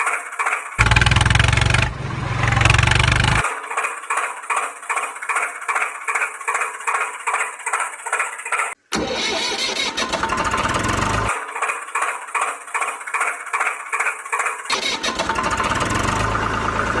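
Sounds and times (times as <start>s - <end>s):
tractor engine chugging: 0.0s - 17.0s.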